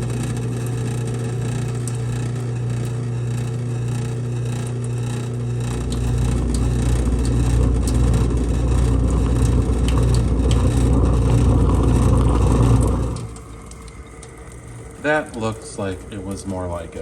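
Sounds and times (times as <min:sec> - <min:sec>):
garbage disposal grinding: 0:00.0 - 0:17.0
running water: 0:00.0 - 0:17.0.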